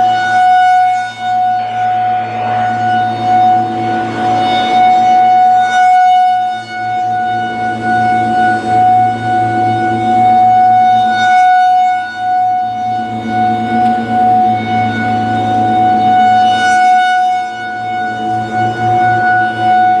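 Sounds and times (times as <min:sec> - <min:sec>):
rotating warning siren: 0:00.0 - 0:20.0.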